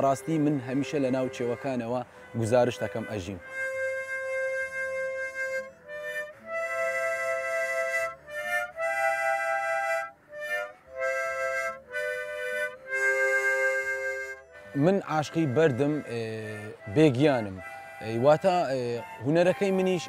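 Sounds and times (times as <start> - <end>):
harmonica played slowly: 0.0 - 20.0.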